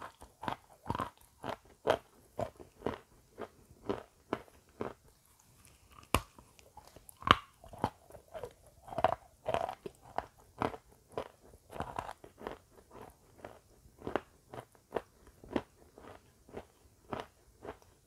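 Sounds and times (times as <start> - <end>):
crunchy snack chewing: 0.0 - 18.0.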